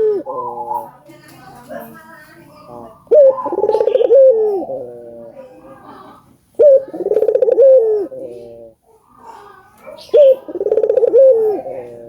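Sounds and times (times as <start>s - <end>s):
dove cooing: 0.0s - 1.0s, 2.6s - 12.0s.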